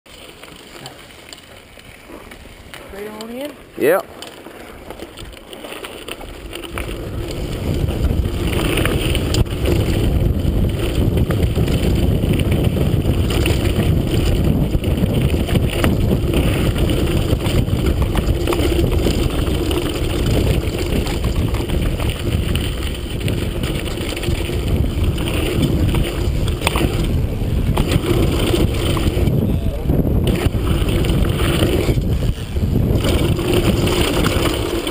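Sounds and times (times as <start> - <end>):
bike clicks and rattles: 0.1 - 34.9
bike tyres rolling on dirt: 0.1 - 34.9
wind on microphone: 6.2 - 34.9.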